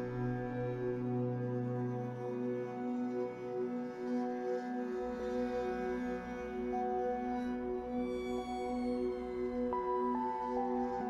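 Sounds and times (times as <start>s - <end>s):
ambient music: 0.0s - 11.0s.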